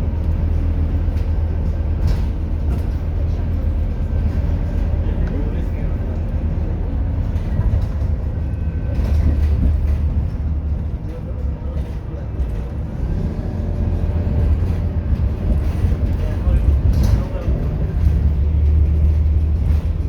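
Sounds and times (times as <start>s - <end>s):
bus diesel engine rumble: 0.0s - 20.0s.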